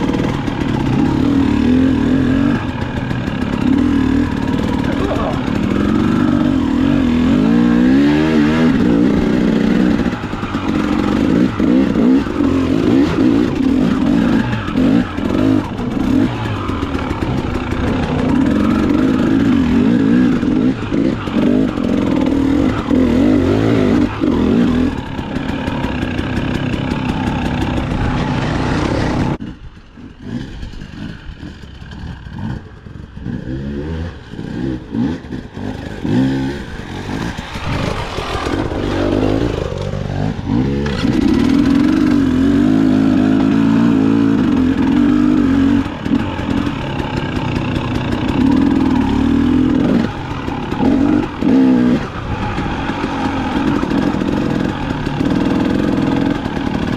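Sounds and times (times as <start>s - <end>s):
clatter and scraping: 0.0s - 33.0s, 35.2s - 56.9s
dirt bike engine revving: 0.0s - 56.9s.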